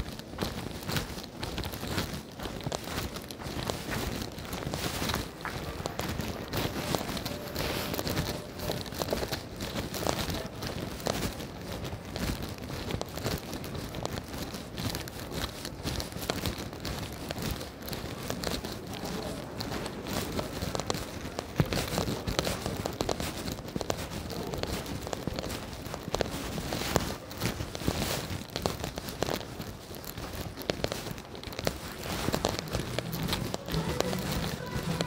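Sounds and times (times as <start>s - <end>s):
crackling rustles near microphone: 0.0s - 35.0s
footsteps on wet pavement: 0.0s - 35.0s.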